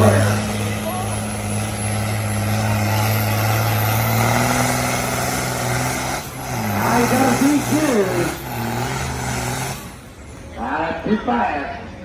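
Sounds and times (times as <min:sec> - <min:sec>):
tractor engine running: 0:00.0 - 0:10.6
broad noise: 0:00.0 - 0:12.0.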